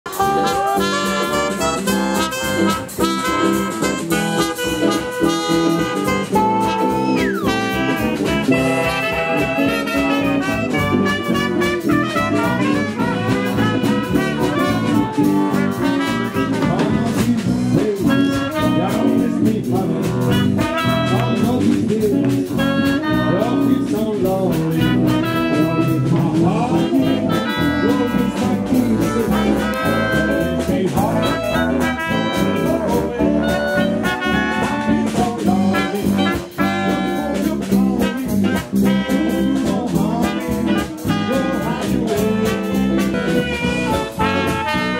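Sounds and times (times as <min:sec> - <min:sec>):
swing jazz band playing: 0:00.0 - 0:44.9.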